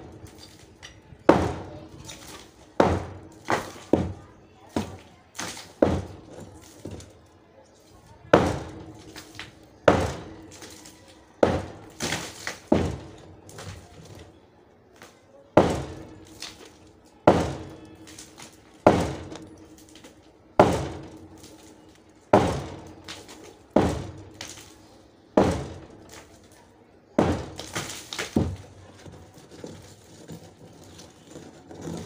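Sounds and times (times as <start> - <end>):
hammer striking concrete: 0.0 - 7.1, 8.2 - 14.3, 15.6 - 24.8, 25.4 - 32.0.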